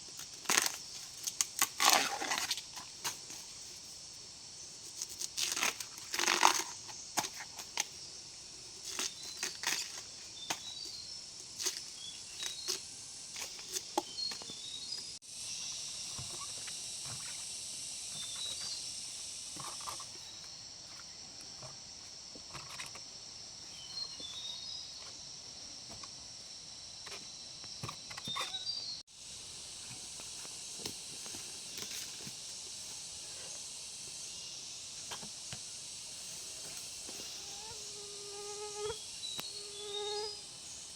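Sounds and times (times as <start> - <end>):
insect drone: 0.0 - 40.9.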